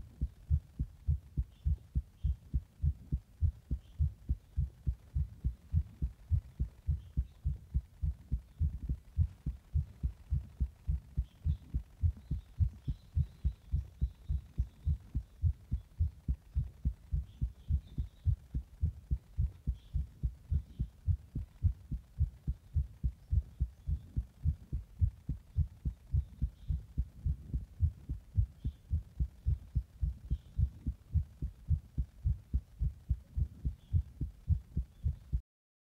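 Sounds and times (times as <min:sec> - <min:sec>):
human heartbeat: 0:00.0 - 0:35.4.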